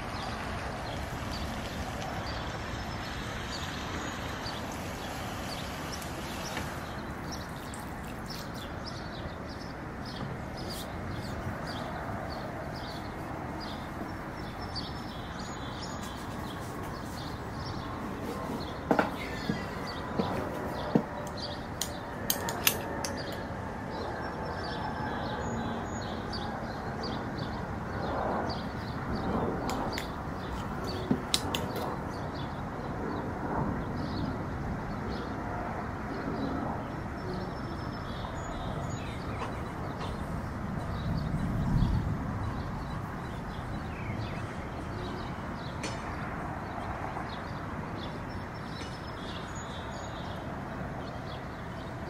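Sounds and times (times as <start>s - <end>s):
steady background noise: 0.0s - 52.0s.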